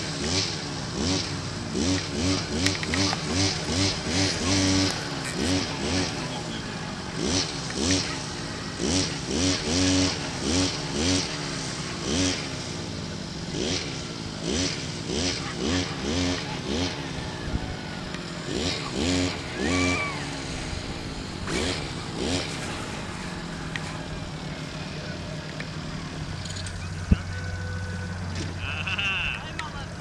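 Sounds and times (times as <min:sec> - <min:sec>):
motor revving up and down: 0:00.0 - 0:29.2.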